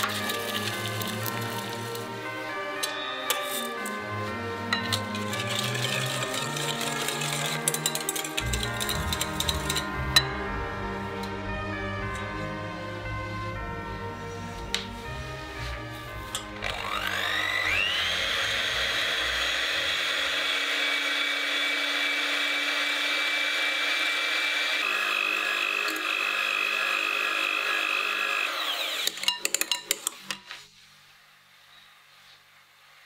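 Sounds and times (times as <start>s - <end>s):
electric hand mixer whining: 0.0s - 30.2s.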